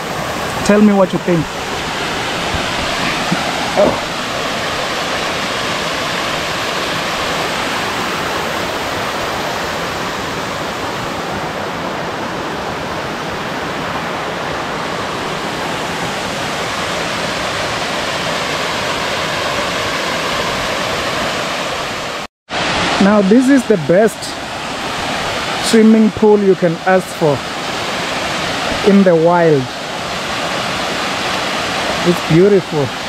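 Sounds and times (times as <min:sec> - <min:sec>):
waterfall rushing into pool: 0:00.0 - 0:33.0.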